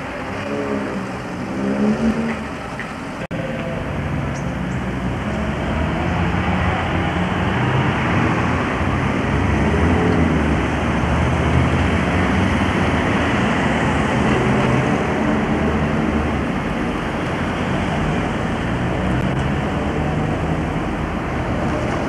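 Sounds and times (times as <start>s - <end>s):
rumble of car engines and tyres: 0.0s - 22.0s.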